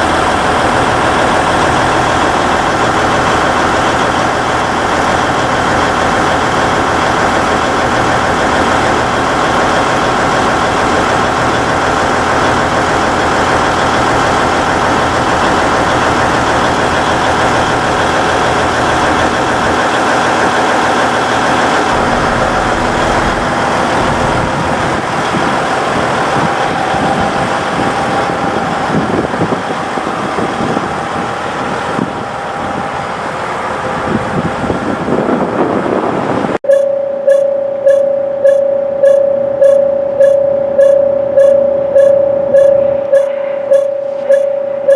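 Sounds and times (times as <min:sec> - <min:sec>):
diesel engines idling: 0:00.0 - 0:36.6.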